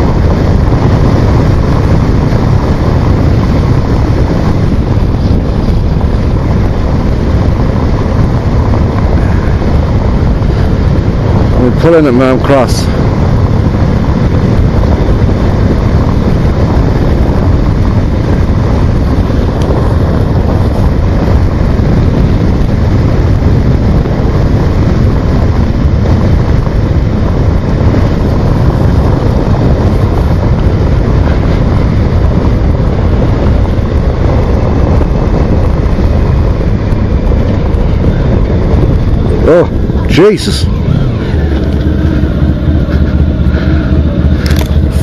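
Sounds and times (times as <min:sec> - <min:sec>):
road and engine noise: 0:00.0 - 0:45.0
wind buffeting microphone: 0:00.0 - 0:45.0.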